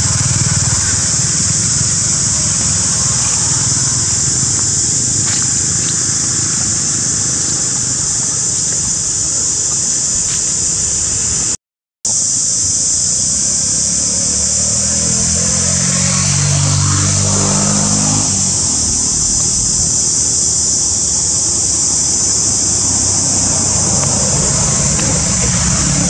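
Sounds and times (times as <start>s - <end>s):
high-pitched hiss: 0.0s - 26.0s.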